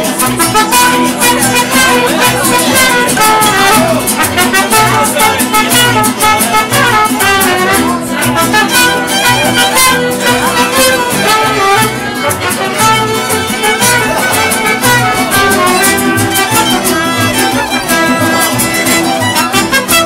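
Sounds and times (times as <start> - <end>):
bass guitar notes: 0.0 - 19.8
strummed guitars: 0.0 - 20.0
trumpet: 0.0 - 20.0
violins playing melody: 0.0 - 20.0.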